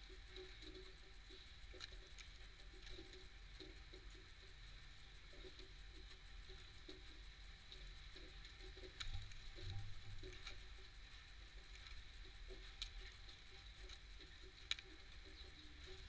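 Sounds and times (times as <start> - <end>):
birds pecking at seeds: 0.0 - 16.0.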